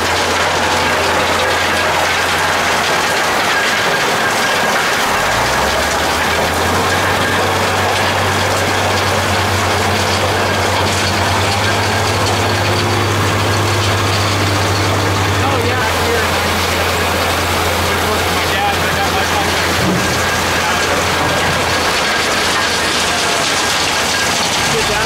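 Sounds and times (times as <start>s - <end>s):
low engine hum: 0.0s - 25.0s
rushing water and gravel: 0.0s - 25.0s.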